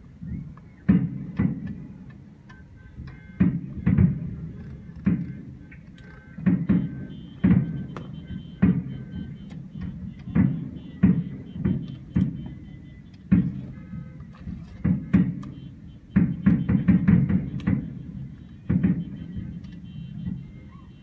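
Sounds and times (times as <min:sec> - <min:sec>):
distant fireworks booming: 0:00.1 - 0:21.0.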